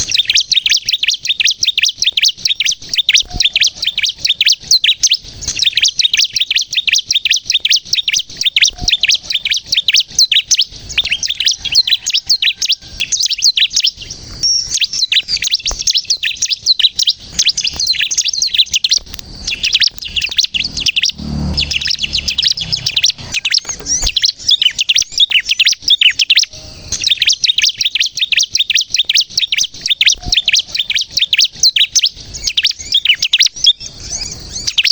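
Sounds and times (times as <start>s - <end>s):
bird singing chattering notes: 0.0s - 12.4s, 13.0s - 34.9s.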